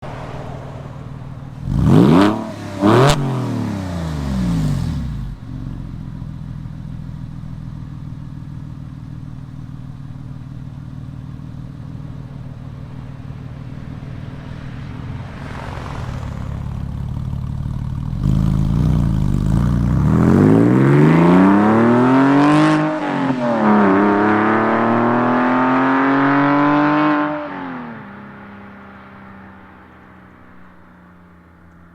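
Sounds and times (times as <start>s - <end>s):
car engine revving and idling: 0.0s - 31.9s.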